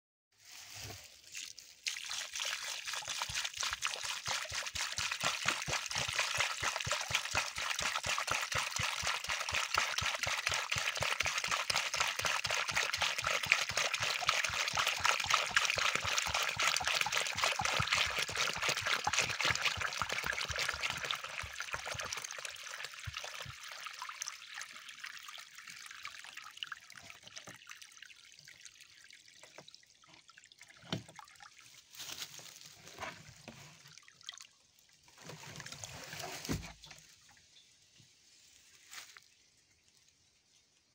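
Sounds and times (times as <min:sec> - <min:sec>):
water pouring into puddle: 0:01.0 - 0:32.4, 0:33.8 - 0:37.2.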